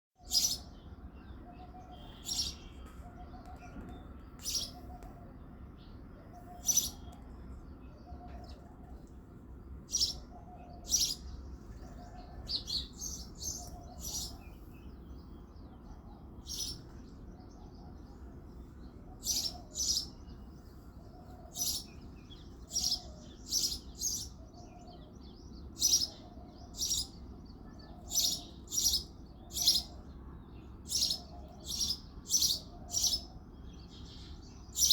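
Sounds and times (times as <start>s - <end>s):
sparrow chirping: 0.2s - 5.1s, 6.2s - 7.2s, 9.8s - 34.9s.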